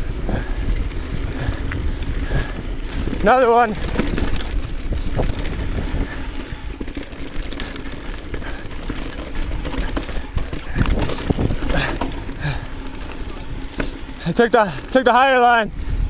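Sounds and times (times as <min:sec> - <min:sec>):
mountain bike knocks and rattles: 0:00.0 - 0:15.6
wind rumble on microphone: 0:00.0 - 0:16.0.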